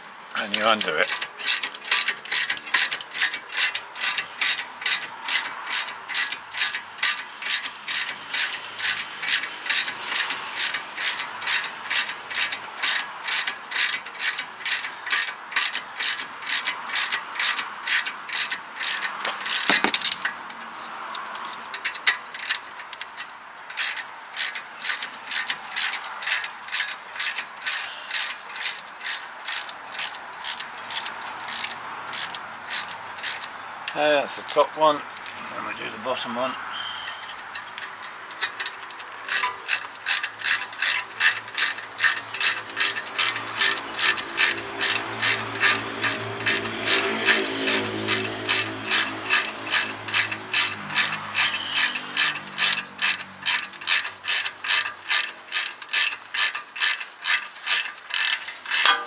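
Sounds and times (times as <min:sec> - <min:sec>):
ratchet clicking: 0:00.4 - 0:35.4, 0:37.1 - 0:59.0.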